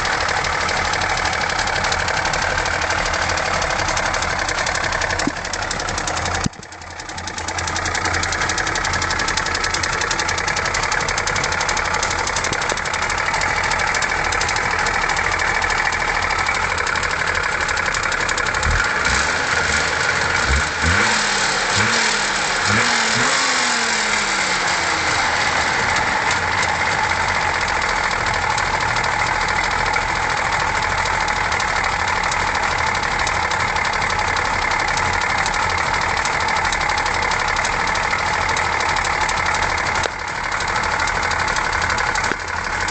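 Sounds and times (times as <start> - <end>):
engine rattle: 0.0 - 42.9
two-stroke car engine idling: 0.0 - 42.9.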